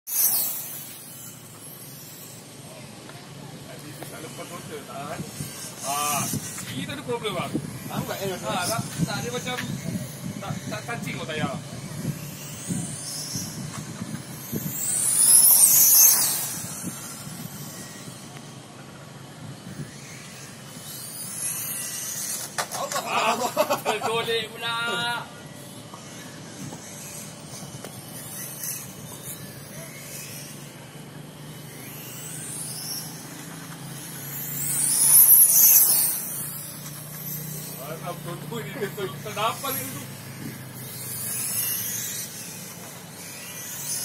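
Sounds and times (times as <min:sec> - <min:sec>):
rc motorcycle motor whine: 0:00.1 - 0:44.0.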